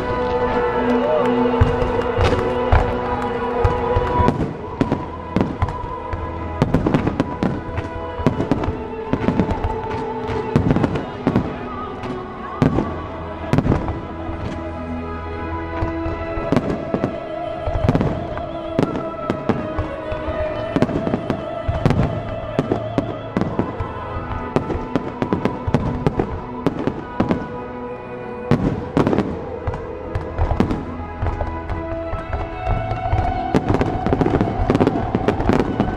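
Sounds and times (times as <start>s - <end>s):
fireworks bursting: 0.0s - 27.8s, 28.4s - 35.9s
music with long held notes: 0.0s - 35.9s.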